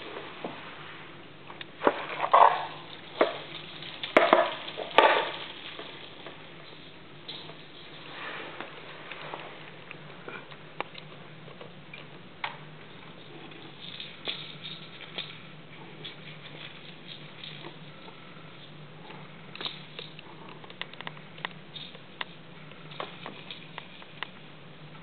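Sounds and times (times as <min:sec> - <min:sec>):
steady low hum: 0:00.0 - 0:25.0
rattle ball on floor: 0:01.8 - 0:10.0, 0:12.4 - 0:24.4.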